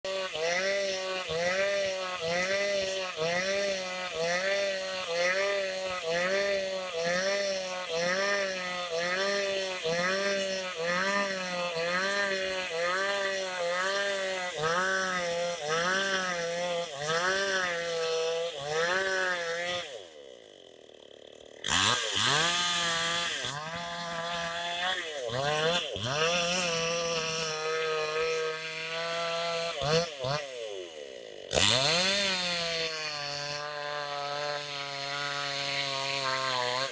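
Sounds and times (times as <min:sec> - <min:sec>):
chainsaw engine revving: 0:00.0 - 0:36.9.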